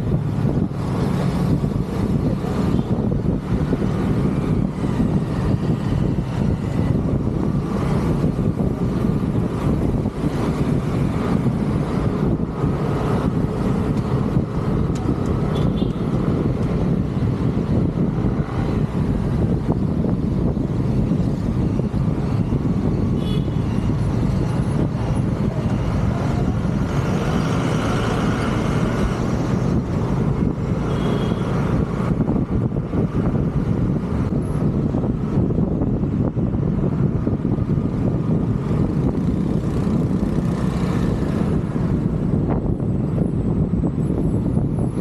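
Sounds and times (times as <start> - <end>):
vehicles passing: 0.0 - 45.0.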